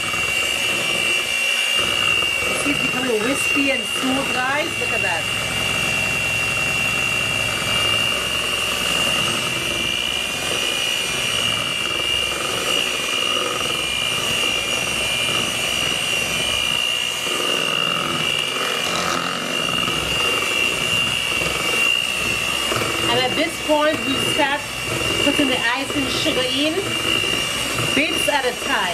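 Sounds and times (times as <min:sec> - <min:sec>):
electric mixer whining: 0:00.0 - 0:28.9.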